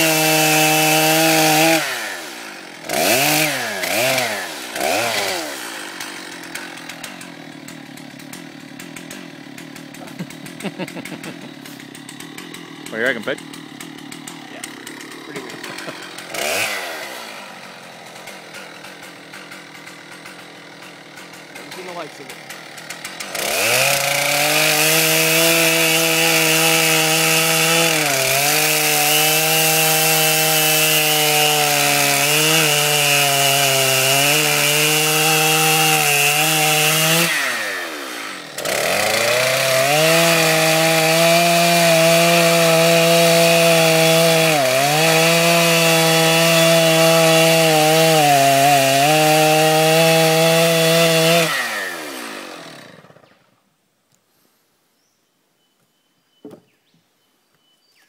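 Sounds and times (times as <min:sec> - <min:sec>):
chainsaw cutting timber: 0:00.0 - 0:53.5.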